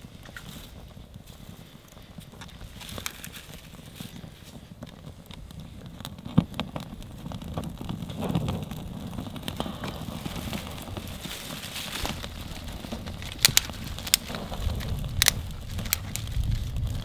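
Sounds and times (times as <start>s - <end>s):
fire pops and snaps: 0.0s - 17.0s
kindling fire crackling: 0.0s - 17.0s.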